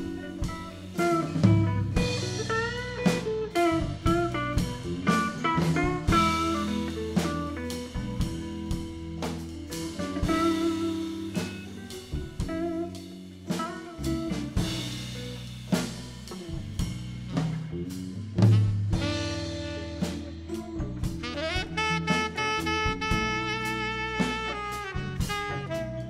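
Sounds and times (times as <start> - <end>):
saxophones: 0.0 - 15.2, 17.3 - 26.0
blues-rock band playing: 0.0 - 26.0.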